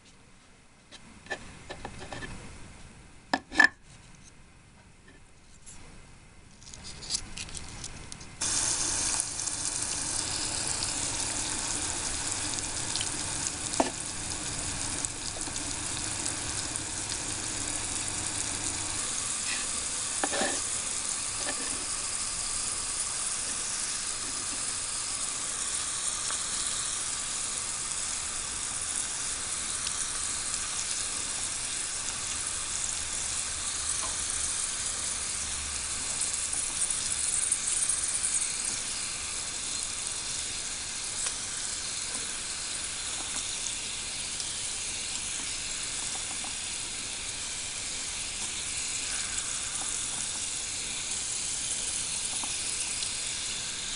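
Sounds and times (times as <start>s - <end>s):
fries sizzling in hot oil: 8.4s - 53.9s.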